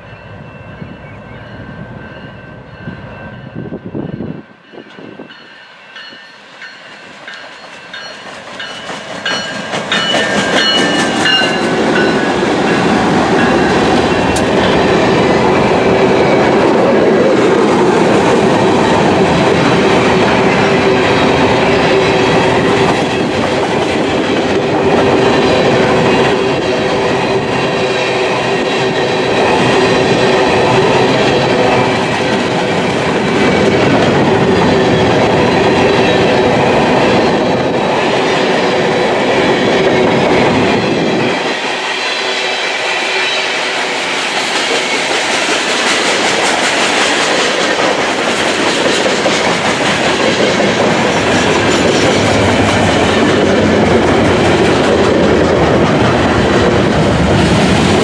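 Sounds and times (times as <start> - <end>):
low train rumble: 0.0 - 58.0
freight train wheels clattering: 6.0 - 58.0.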